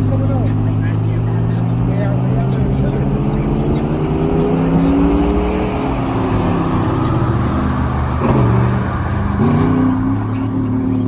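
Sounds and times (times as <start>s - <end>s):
car engine under load: 0.0s - 11.0s.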